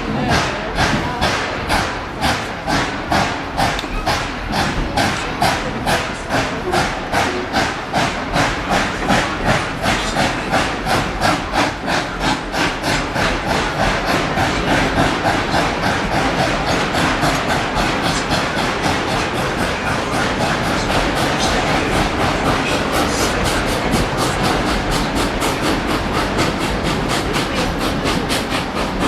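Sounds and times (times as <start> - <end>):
steam locomotive chuffing: 0.0 - 29.0.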